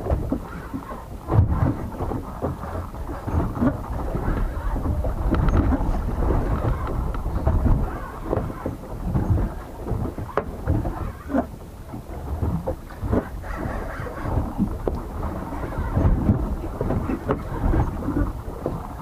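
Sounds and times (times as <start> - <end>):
wind and water buffeting boat: 0.0 - 19.0.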